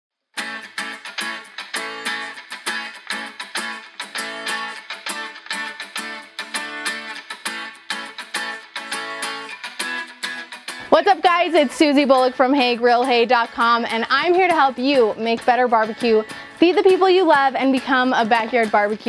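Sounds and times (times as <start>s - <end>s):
strummed guitar music: 0.4s - 19.0s.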